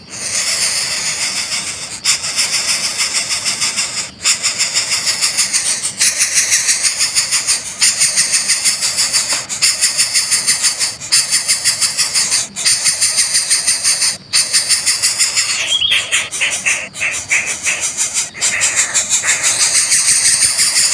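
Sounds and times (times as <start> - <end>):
nestling rasping begging buzz: 0.0 - 20.9.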